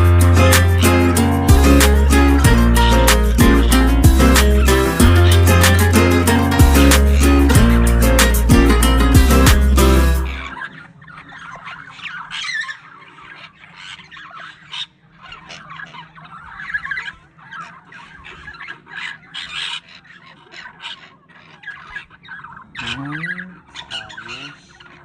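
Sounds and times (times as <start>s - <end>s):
budgerigars chattering: 0.0s - 25.0s.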